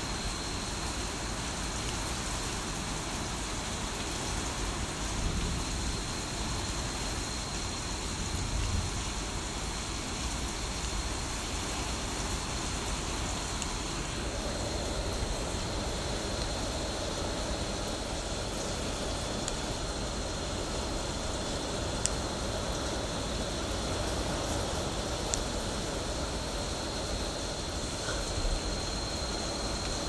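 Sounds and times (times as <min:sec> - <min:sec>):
heavy rain hissing: 0:00.0 - 0:30.0.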